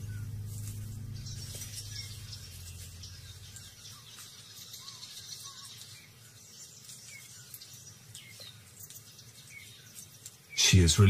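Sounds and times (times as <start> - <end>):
soft bird chirps: 0.0 - 11.0.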